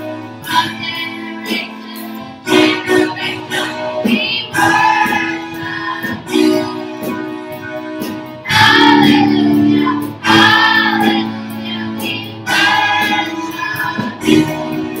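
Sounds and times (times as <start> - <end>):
held keyboard chords: 0.0 - 15.0
children singing: 0.4 - 7.2, 8.4 - 15.0.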